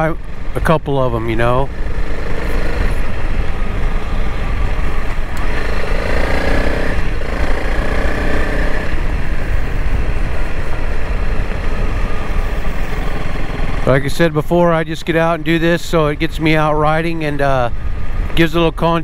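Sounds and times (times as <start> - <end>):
motorcycle engine running: 0.0 - 16.0
off-road riding noise: 0.0 - 19.0.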